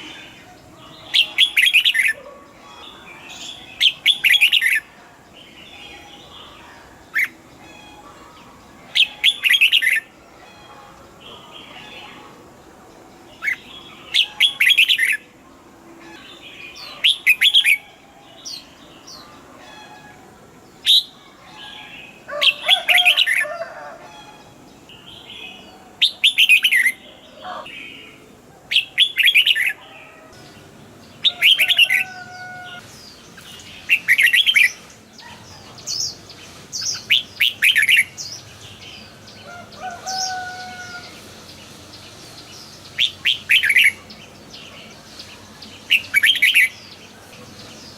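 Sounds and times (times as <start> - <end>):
bulbul chirping song: 0.0 - 47.9.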